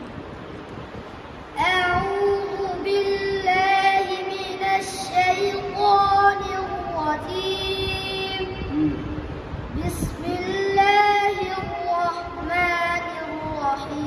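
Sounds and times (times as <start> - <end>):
boy reciting in melodic style: 1.5 - 14.0.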